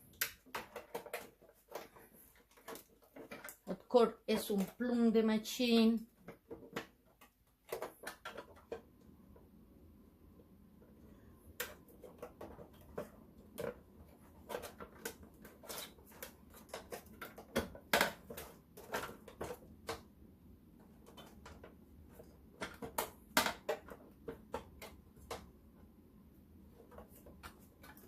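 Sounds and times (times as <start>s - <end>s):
hands and tools handling plastic parts: 0.0s - 5.1s, 6.0s - 9.5s, 10.8s - 26.0s, 26.6s - 28.0s.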